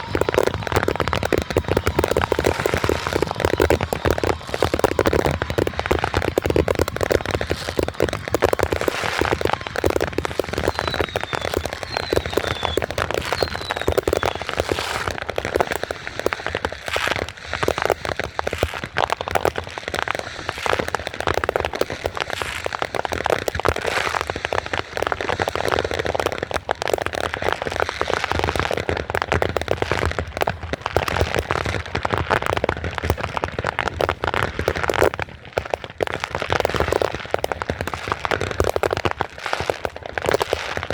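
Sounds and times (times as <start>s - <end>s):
falling firework whistles: 0.0s - 33.8s
fireworks crackling and popping: 0.0s - 40.9s.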